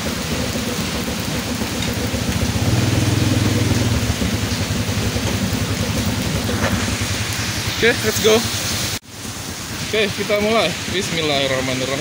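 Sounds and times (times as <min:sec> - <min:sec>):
heavy rain: 0:00.0 - 0:12.0
motorcycle engine idling: 0:00.0 - 0:12.0.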